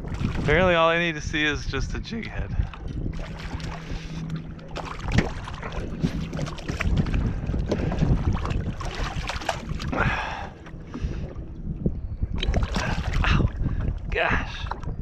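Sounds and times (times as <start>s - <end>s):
low steady hum: 0.0s - 15.0s
water slapping boat hull: 0.0s - 15.0s
wind buffeting microphone: 0.0s - 15.0s.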